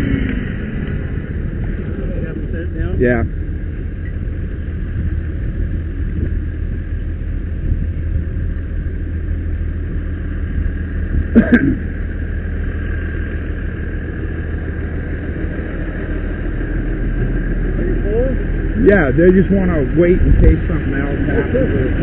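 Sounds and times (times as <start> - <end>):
fire truck engine rumble: 0.0 - 22.0
water pump whine: 0.0 - 22.0.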